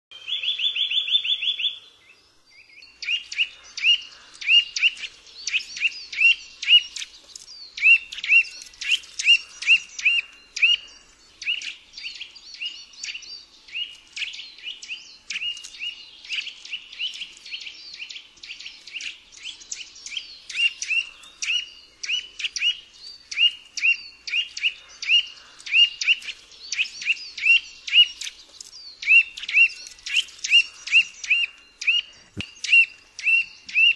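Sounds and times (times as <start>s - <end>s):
bird trilling: 3.0s - 33.9s.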